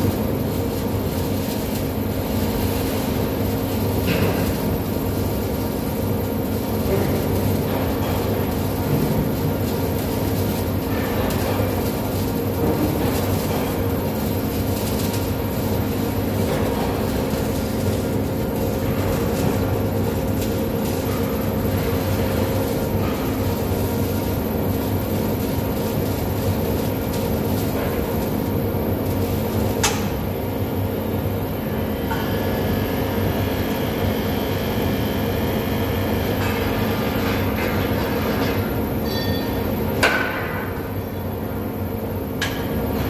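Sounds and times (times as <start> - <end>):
constant hum: 0.0 - 43.0.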